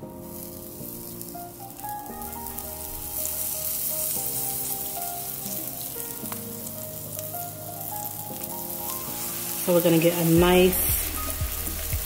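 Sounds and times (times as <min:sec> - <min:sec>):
background music sustained notes: 0:00.0 - 0:12.0
buns sizzling in skillet: 0:00.0 - 0:12.0.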